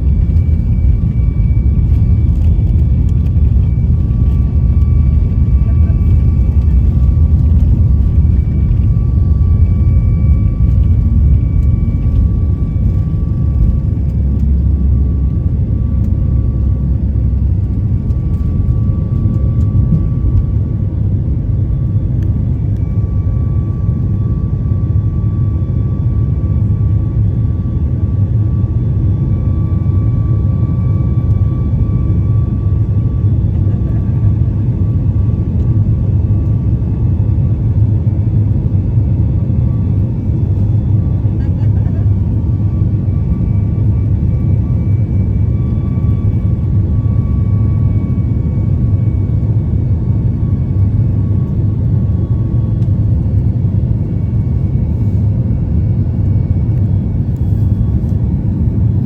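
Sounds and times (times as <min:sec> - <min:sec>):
airliner cabin engine rumble: 0:00.0 - 0:59.0
faint turbofan whine: 0:00.0 - 0:59.0.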